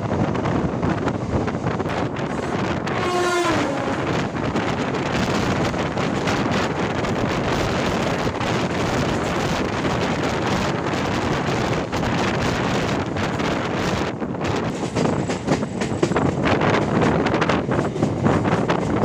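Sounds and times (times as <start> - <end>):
train running at speed: 0.0 - 19.0
wind buffeting microphone: 0.0 - 19.0.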